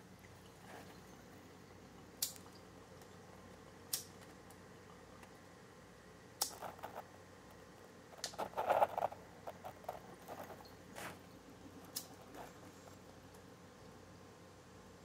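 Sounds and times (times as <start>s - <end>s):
small bubbling crackles and drips: 0.0s - 14.1s.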